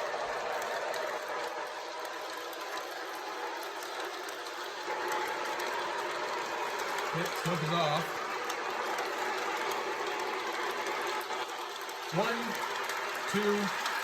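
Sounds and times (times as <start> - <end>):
model train motors whirring: 0.0 - 14.0
wheels rolling on track: 0.0 - 14.0.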